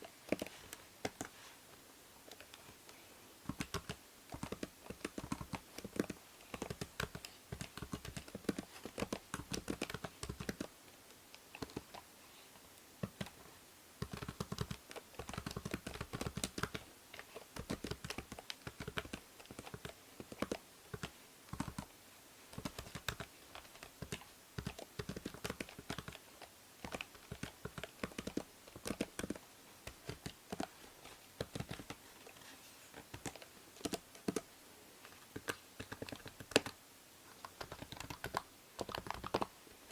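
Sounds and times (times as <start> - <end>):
faint microphone hiss: 0.0 - 39.9.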